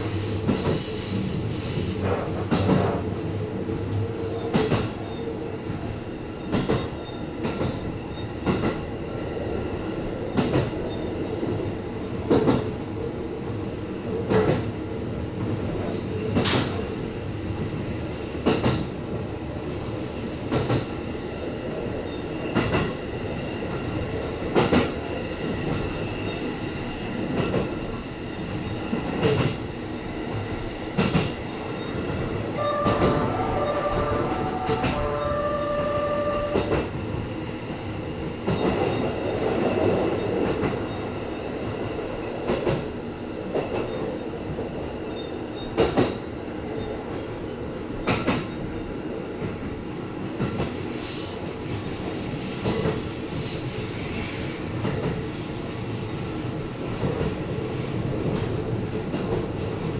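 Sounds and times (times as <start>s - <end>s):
train rumble and hum: 0.0s - 59.9s.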